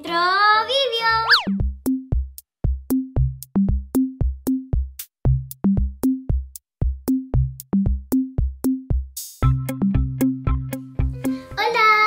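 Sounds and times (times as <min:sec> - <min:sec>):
electronic drum-machine beat: 0:01.4 - 0:11.2.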